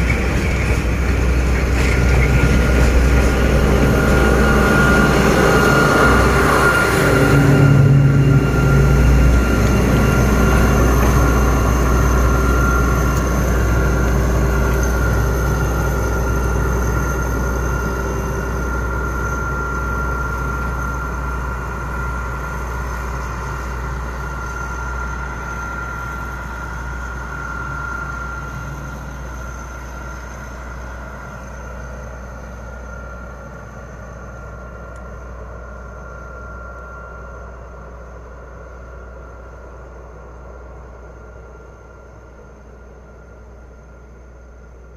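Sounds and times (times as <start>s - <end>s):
diesel locomotive rumble: 0.0s - 44.9s
train high whine: 0.0s - 44.9s.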